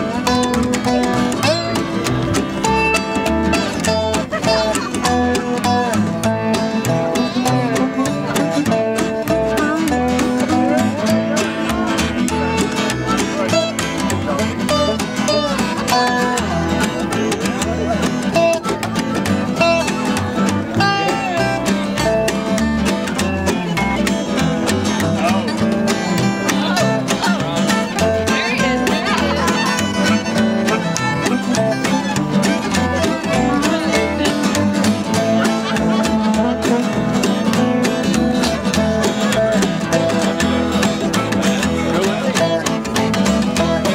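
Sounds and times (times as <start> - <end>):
resonator guitar sliding notes: 0.0 - 43.9
strummed acoustic guitars: 0.0 - 43.9
upright bass: 0.0 - 43.9.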